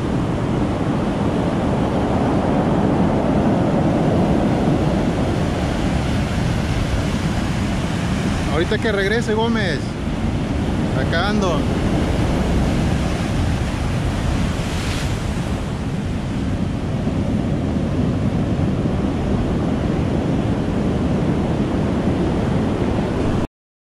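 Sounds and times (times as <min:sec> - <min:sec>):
storm surf on cobble beach: 0:00.0 - 0:23.5
wind buffeting microphone: 0:00.0 - 0:23.5.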